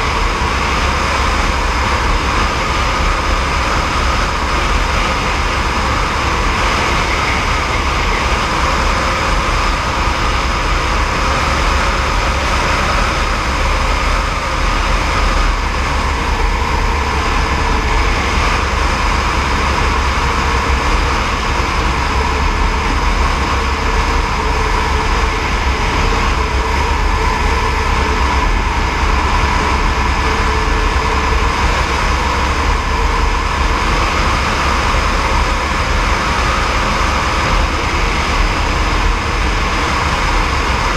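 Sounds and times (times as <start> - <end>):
helicopter rotor and engine: 0.0 - 40.9.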